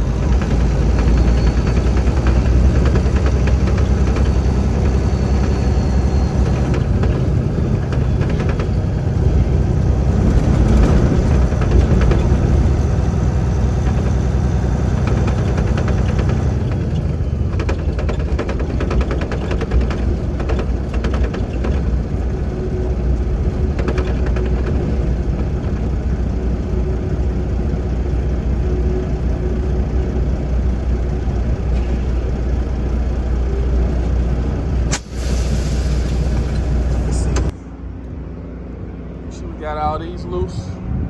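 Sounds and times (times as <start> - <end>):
truck diesel engine droning: 0.0 - 41.0.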